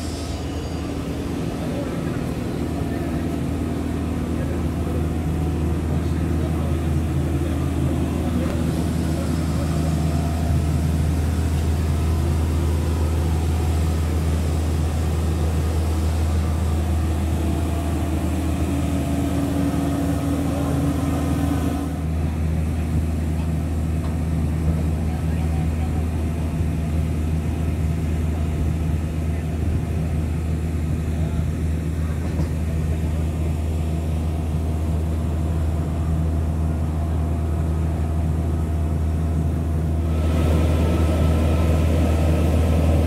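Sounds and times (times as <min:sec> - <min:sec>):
engine droning: 0:00.0 - 0:43.0.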